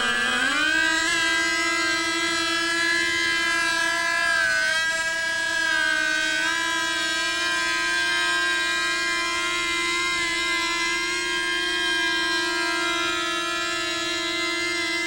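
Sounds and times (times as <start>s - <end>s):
model aircraft engine whine: 0.0s - 15.0s.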